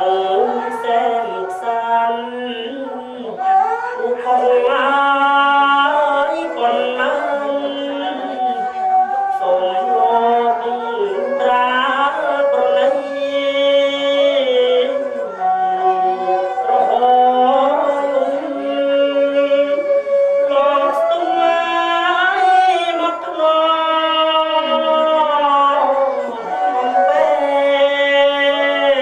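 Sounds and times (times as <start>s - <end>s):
person singing: 0.0s - 29.0s.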